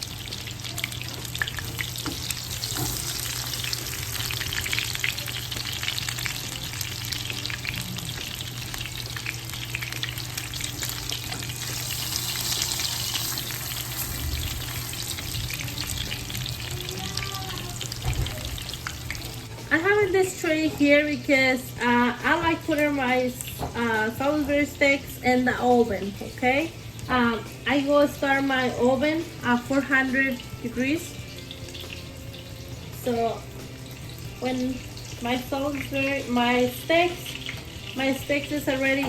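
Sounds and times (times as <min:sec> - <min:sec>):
meat sizzling in frying pan: 0:00.0 - 0:25.2, 0:26.2 - 0:39.0.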